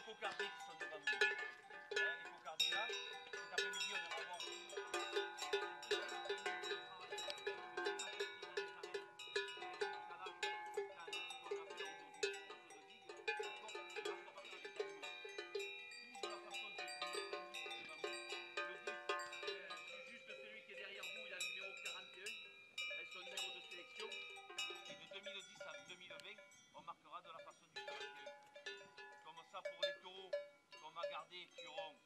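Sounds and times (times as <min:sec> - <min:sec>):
cattle bells clanking: 0:00.0 - 0:32.0.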